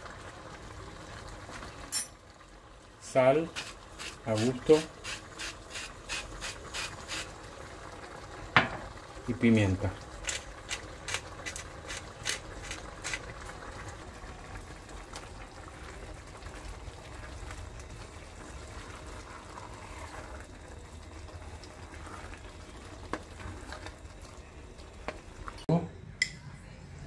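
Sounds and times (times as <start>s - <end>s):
filling simmering in a pot: 0.0s - 25.7s.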